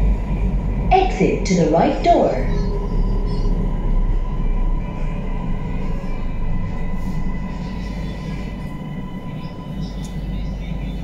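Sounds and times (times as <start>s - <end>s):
metro train wheels rumbling on rail: 0.0s - 11.0s
thin steady train whine: 0.0s - 11.0s.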